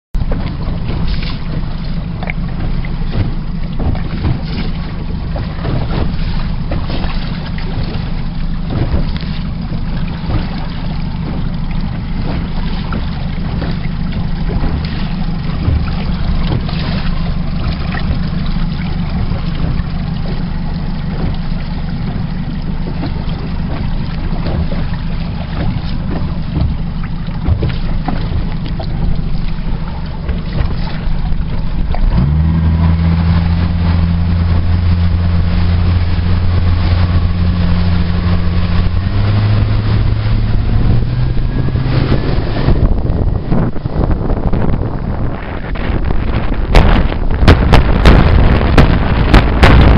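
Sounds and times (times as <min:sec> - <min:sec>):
outboard engine droning: 0:00.1 - 0:49.9
short thumps: 0:00.2 - 0:44.8
wind noise on microphone: 0:00.2 - 0:49.9.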